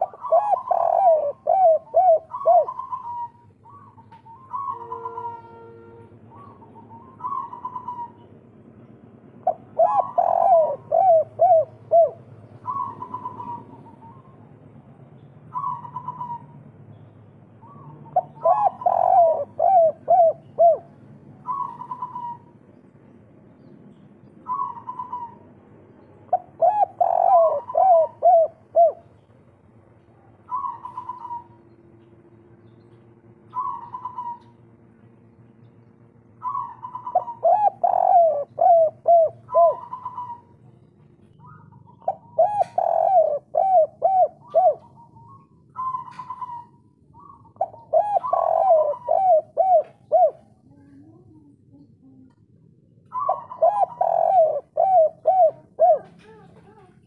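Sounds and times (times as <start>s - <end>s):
dove cooing: 0.0s - 8.3s, 9.4s - 14.6s, 15.5s - 16.6s, 17.6s - 22.7s, 24.5s - 25.6s, 26.2s - 29.2s, 30.4s - 32.0s, 33.4s - 34.7s, 36.4s - 57.0s.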